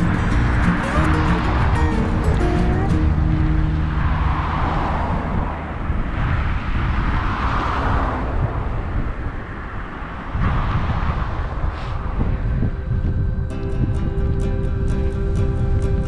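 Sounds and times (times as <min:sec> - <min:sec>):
passing road traffic: 0:00.0 - 0:16.0
wind rumble on microphone: 0:00.0 - 0:16.0.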